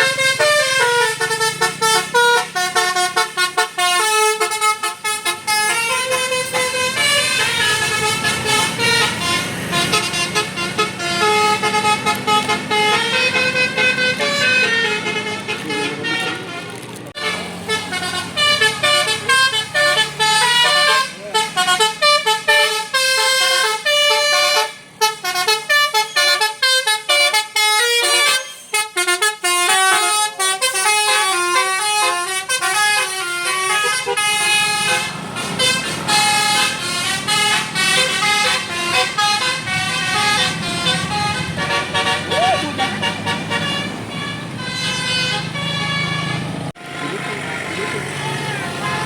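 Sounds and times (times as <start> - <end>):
bus engine humming: 0.0 - 49.0
multi-tone bus horn melody: 0.0 - 49.0.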